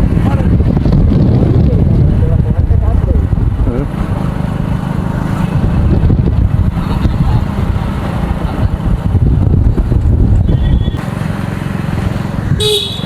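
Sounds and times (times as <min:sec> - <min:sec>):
wind buffeting microphone: 0:00.0 - 0:11.0
road vehicle running: 0:00.0 - 0:13.0.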